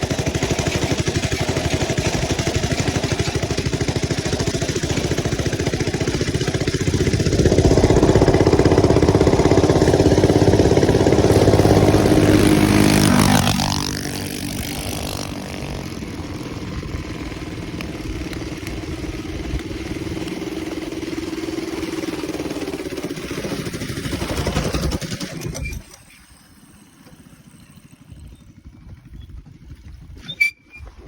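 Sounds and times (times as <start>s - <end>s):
mini bike engine running: 0.0s - 31.0s.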